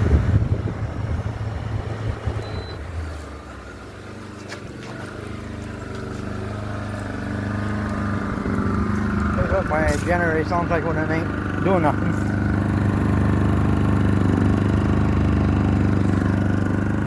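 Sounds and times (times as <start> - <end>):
portable generator running: 0.0 - 17.0.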